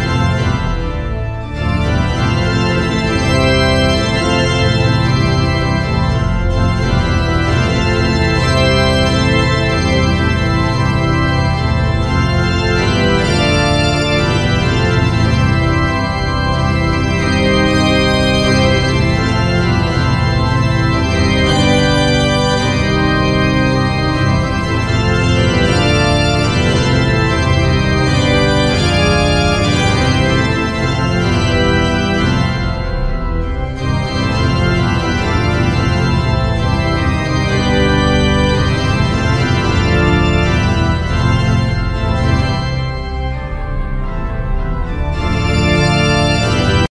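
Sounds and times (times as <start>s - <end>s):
organ-like chords over bass: 0.0s - 46.9s.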